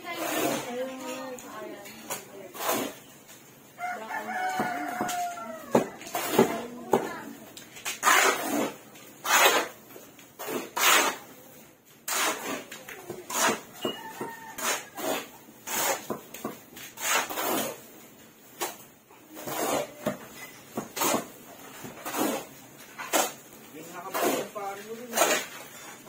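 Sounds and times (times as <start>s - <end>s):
shovels scraping through mortar: 0.0s - 3.4s, 4.5s - 11.4s, 12.0s - 26.0s.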